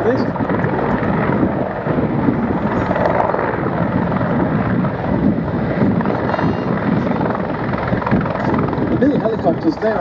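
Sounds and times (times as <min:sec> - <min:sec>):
helicopters rumbling overhead: 0:00.0 - 0:10.0.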